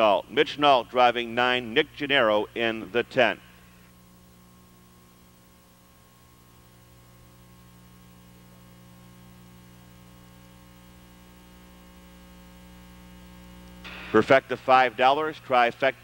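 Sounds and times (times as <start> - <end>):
electrical mains hum: 0.0 - 16.0
faint hiss: 0.0 - 16.0.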